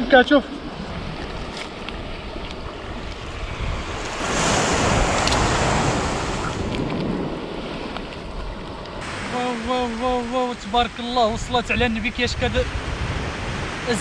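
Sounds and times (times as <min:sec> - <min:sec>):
wind buffeting microphone: 0:00.0 - 0:14.0
sea surf washing in: 0:00.5 - 0:14.0.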